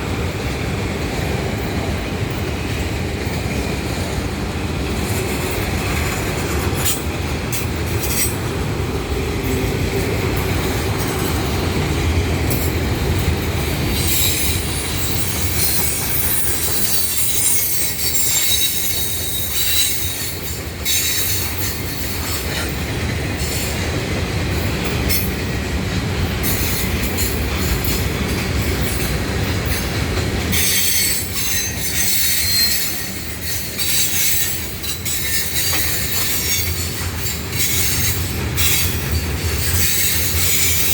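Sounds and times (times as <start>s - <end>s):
freight train cars rumbling: 0.0s - 40.9s
steel wheels squealing on rails: 0.0s - 40.9s.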